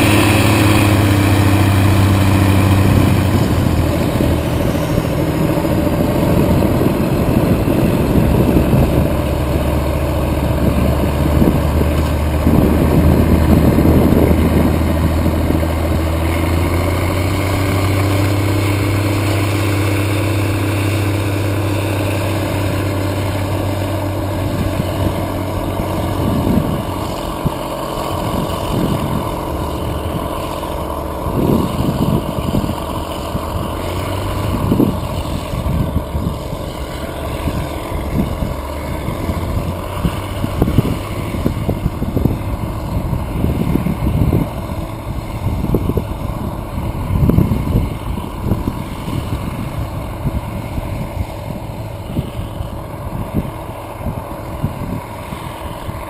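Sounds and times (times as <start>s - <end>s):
tractor diesel engines droning: 0.0s - 56.0s
wind gusts on microphone: 0.0s - 56.0s.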